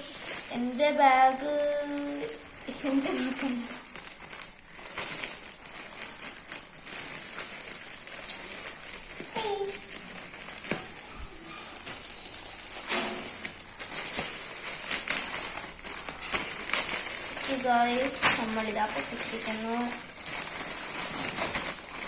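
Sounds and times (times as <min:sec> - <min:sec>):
crackles: 0:00.0 - 0:22.0
plastic packaging crinkling: 0:00.0 - 0:22.0.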